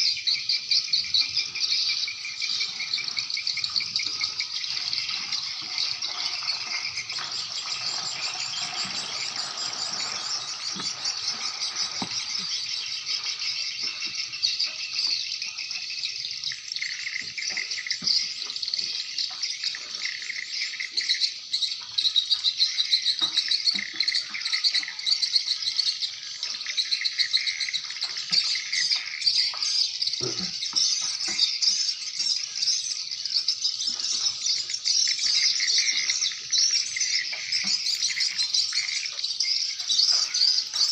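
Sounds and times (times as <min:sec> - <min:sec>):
swiftlet chirps and trills: 0:00.0 - 0:40.9.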